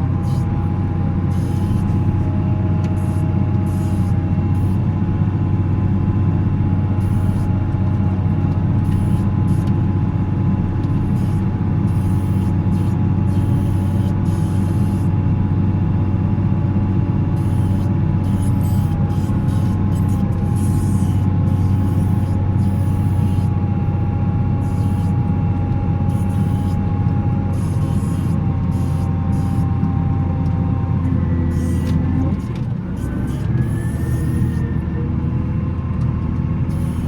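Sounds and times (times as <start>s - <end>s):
thin steady whine: 0.0s - 15.4s, 16.0s - 37.0s
diesel engine humming: 0.0s - 37.0s.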